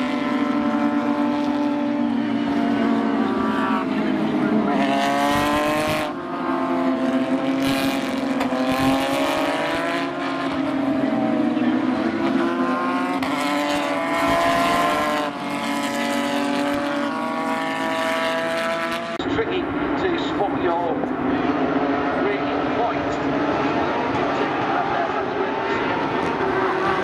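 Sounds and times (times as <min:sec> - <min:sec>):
race car engines at high revs: 0:00.0 - 0:27.0.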